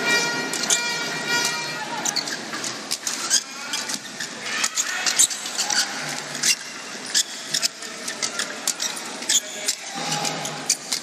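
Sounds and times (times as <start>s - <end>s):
shoes squeaking on court: 2.0s - 11.0s.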